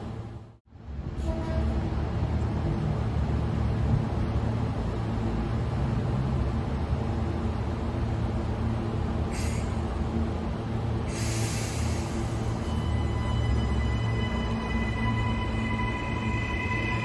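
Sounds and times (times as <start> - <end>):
electric train equipment humming: 0.0 - 17.0.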